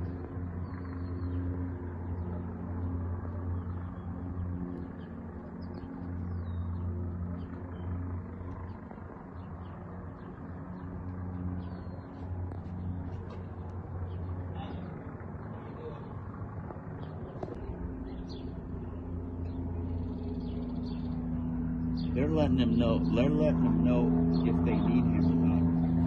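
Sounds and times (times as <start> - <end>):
helicopter hovering: 0.0 - 26.0
small birds chirping: 0.0 - 26.0.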